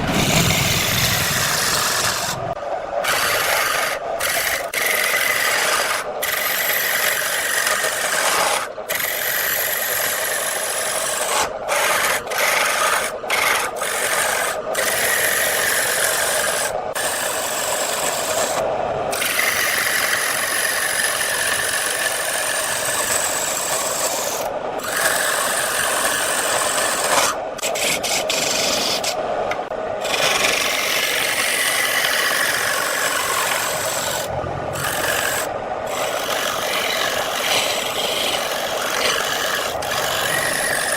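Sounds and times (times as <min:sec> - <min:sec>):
lathe tool scraping wood: 0:00.0 - 0:29.2, 0:30.0 - 0:40.9.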